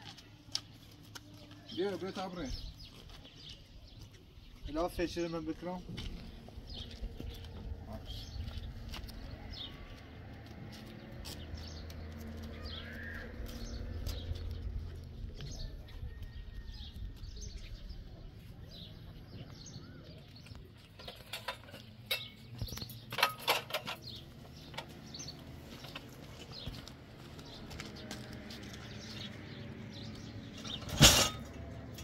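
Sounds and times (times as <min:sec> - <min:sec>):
small birds chirping: 0:00.1 - 0:31.2.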